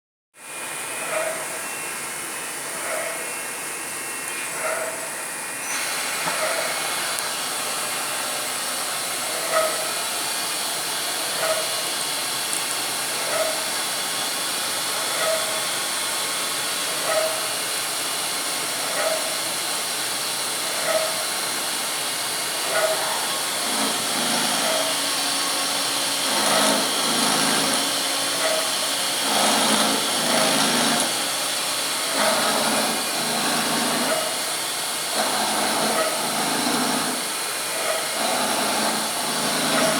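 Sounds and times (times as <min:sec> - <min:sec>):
milling machine hiss: 0:00.4 - 0:39.9.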